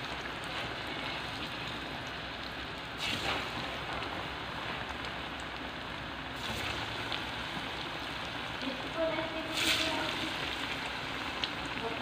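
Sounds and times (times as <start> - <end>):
bananas sizzling in hot oil: 0.0 - 12.0.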